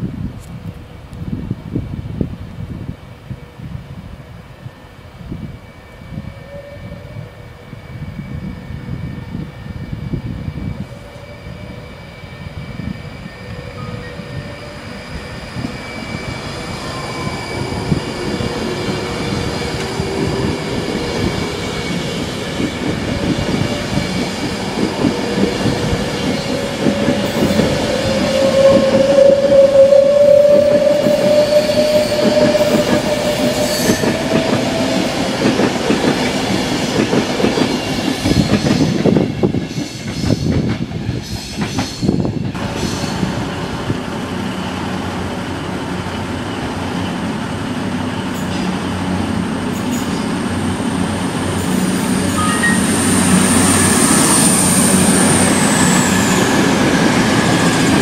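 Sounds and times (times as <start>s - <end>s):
train wheels rumbling on rails: 5.2s - 58.0s
train wheels squealing: 5.4s - 35.6s, 37.6s - 45.3s, 46.0s - 58.0s.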